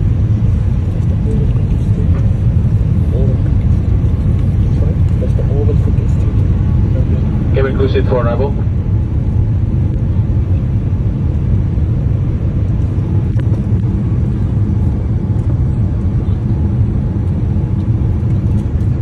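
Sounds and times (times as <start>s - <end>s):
airliner jet engine rumble: 0.0s - 19.0s.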